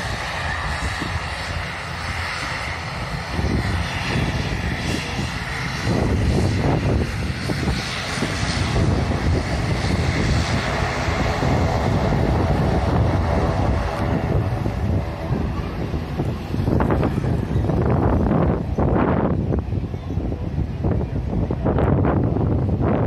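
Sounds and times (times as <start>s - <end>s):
jet engines passing overhead: 0.0s - 23.0s
wind buffeting microphone: 0.0s - 23.0s.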